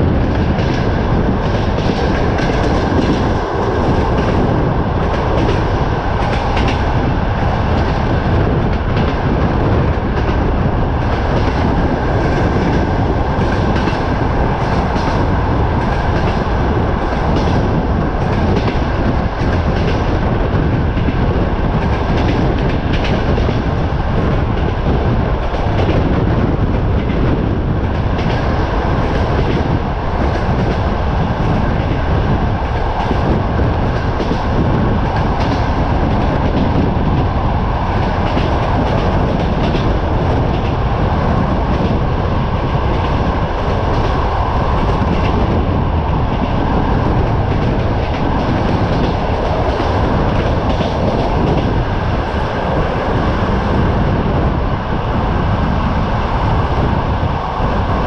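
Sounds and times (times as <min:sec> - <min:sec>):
train carriage rumble: 0:00.0 - 0:58.0
wind noise: 0:00.0 - 0:58.0.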